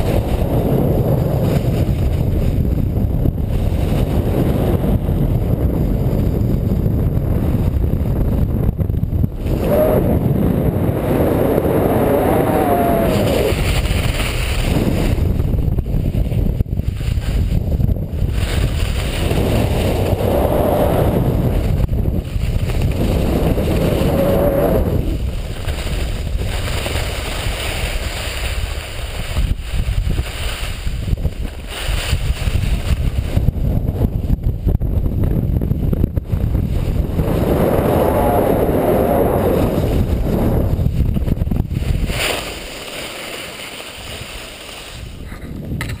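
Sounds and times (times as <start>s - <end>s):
skis sliding over snow: 0.0s - 6.6s, 10.9s - 33.6s, 36.4s - 46.0s
wind buffeting microphone: 0.0s - 46.0s.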